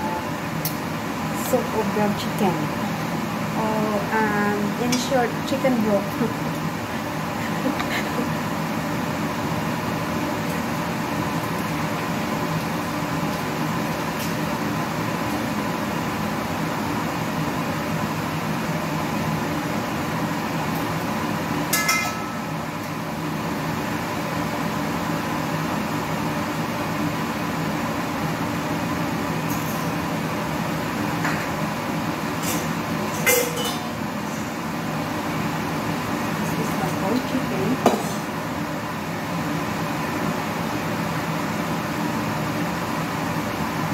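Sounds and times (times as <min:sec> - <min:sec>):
fan humming: 0:00.0 - 0:43.9.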